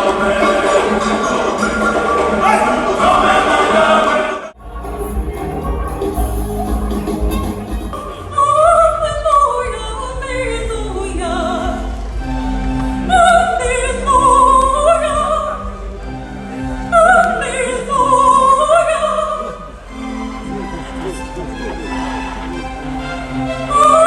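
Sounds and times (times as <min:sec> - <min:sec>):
gospel choir singing: 0:00.0 - 0:24.0.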